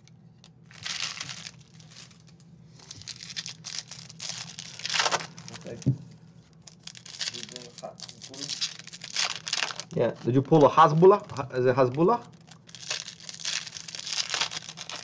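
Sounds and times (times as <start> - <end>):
foil wrapper crinkling and tearing: 0.7 - 15.0.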